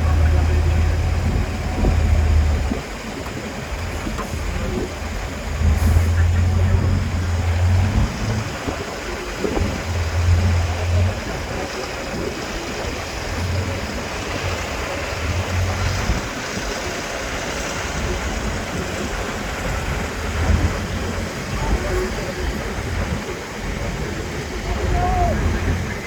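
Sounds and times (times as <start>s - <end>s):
steady rushing noise: 0.0s - 26.0s
truck engine running: 0.0s - 26.0s.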